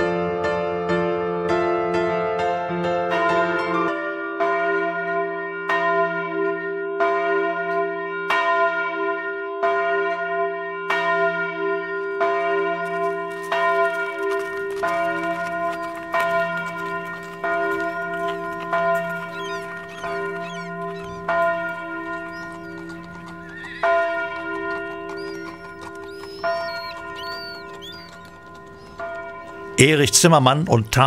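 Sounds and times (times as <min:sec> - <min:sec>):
piano: 0:00.0 - 0:06.6, 0:11.2 - 0:31.0
church bell tolling: 0:03.1 - 0:31.0.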